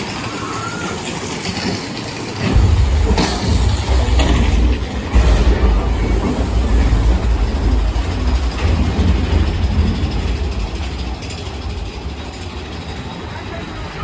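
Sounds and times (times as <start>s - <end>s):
roller coaster cars rumbling: 0.0s - 14.0s
sharp clatter: 1.2s - 14.0s.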